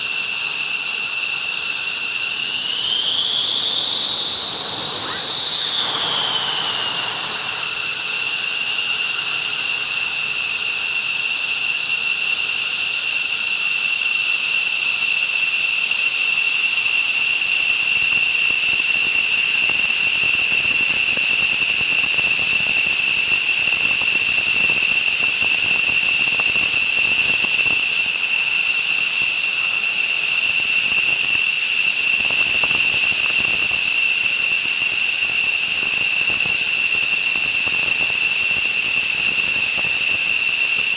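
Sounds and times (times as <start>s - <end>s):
turbine engine whining: 0.0s - 13.4s, 16.4s - 40.9s.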